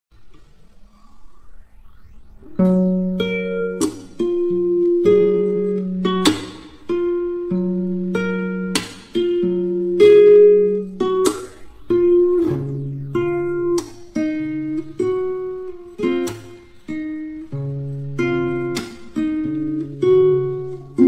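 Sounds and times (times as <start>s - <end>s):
acoustic guitar strumming chords: 2.6s - 21.0s.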